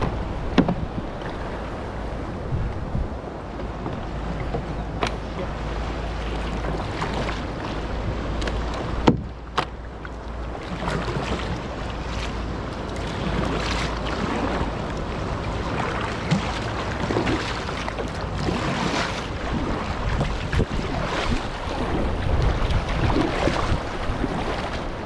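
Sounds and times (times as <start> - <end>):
paddle strokes splashing water: 0.0 - 25.0
wind buffeting microphone: 0.0 - 25.0.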